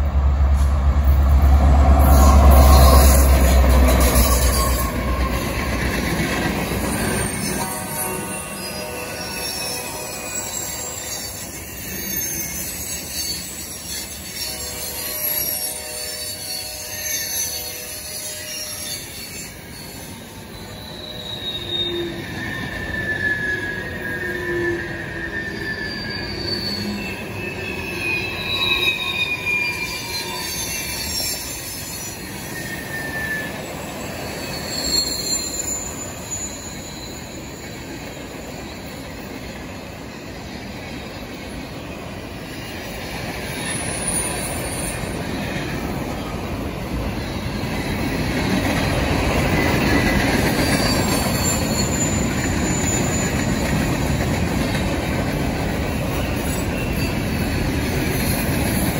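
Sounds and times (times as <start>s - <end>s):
train wheels rumbling on rail: 0.0s - 58.9s
wheel squeals: 2.0s - 39.3s, 43.5s - 46.3s, 47.0s - 58.9s.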